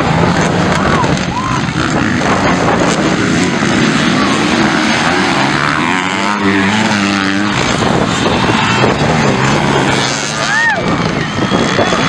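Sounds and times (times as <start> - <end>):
motocross bikes revving past: 0.0 - 12.0.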